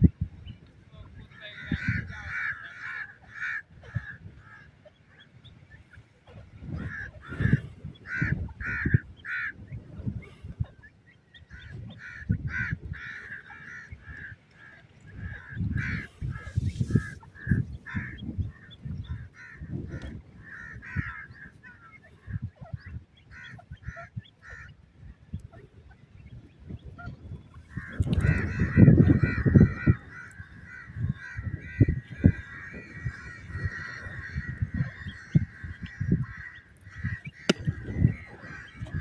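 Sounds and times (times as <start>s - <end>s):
francolins calling: 0.0s - 39.0s.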